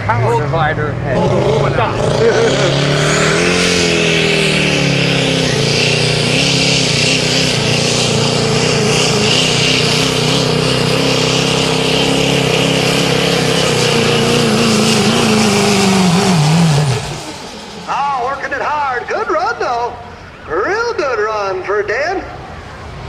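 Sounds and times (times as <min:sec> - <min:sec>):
diesel truck engine at full throttle: 0:00.0 - 0:23.0.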